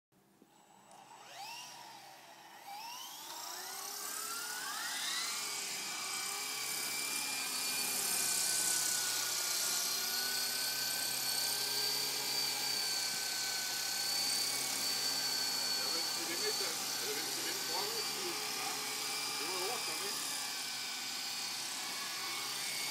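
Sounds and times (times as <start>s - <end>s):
toy helicopter motor whine: 0.5s - 22.9s.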